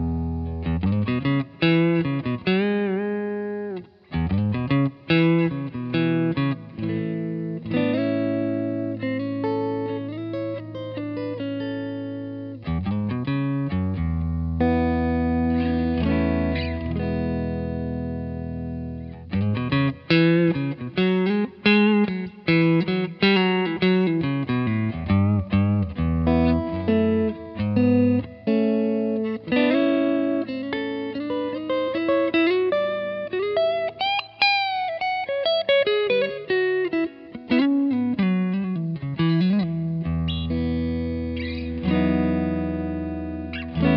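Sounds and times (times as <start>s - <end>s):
clean electric guitar chords: 0.0s - 43.9s
electric guitar single-note lines: 0.0s - 43.9s.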